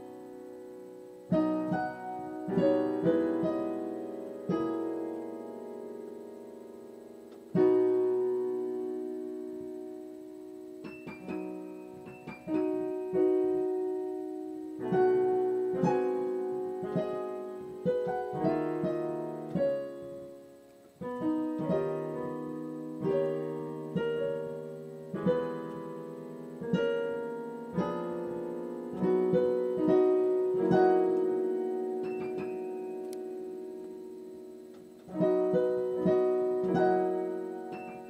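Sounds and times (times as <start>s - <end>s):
slow solo piano: 0.0s - 38.0s.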